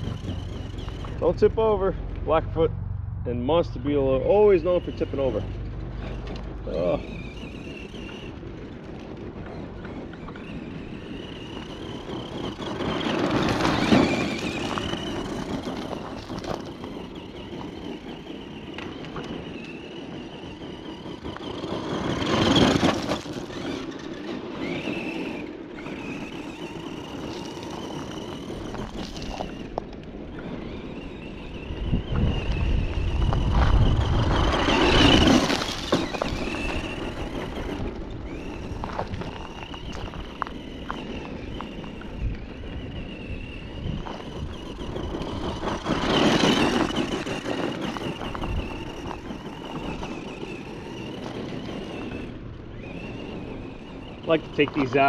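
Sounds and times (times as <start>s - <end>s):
tyres crunching on gravel: 0.0s - 2.7s, 3.4s - 55.0s
rc truck motor whine: 0.0s - 55.0s.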